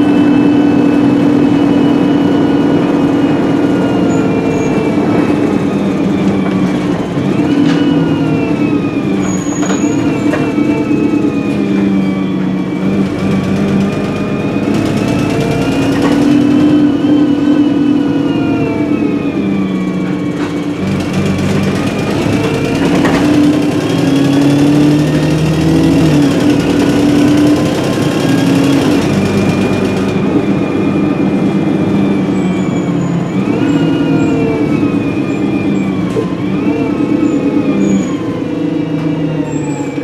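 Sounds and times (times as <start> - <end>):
bus diesel engine accelerating: 0.0 - 40.0.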